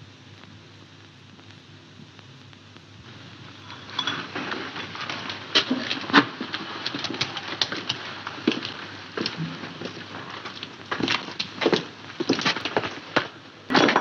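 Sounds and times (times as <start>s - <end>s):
low muffled hum: 0.0s - 14.0s.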